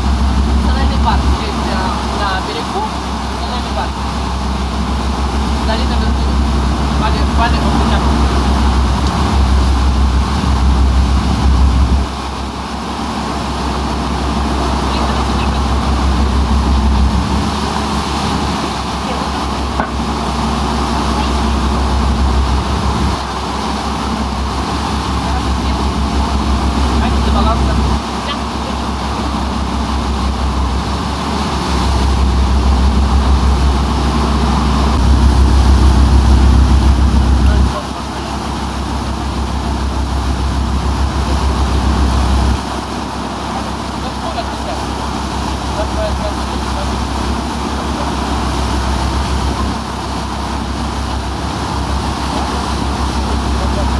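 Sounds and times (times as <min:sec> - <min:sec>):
boat engine rumble: 0:00.0 - 0:53.9
wind and water rushing: 0:00.0 - 0:53.9.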